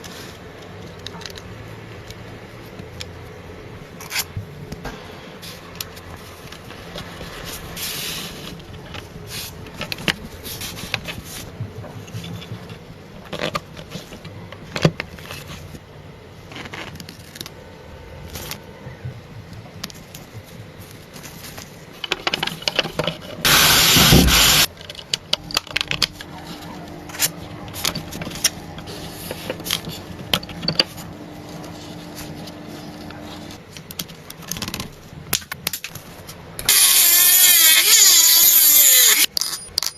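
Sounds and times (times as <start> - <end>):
scraping and rubbing car parts: 0.0 - 36.9
faint steady hum: 0.0 - 37.0.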